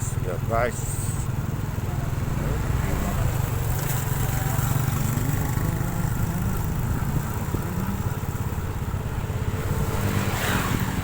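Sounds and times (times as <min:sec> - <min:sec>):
road and wind noise: 0:00.0 - 0:11.0
vehicle engine running: 0:00.0 - 0:11.0.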